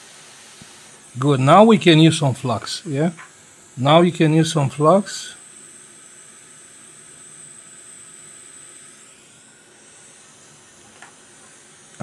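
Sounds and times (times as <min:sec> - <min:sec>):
hot-air station hissing: 0:00.0 - 0:12.0.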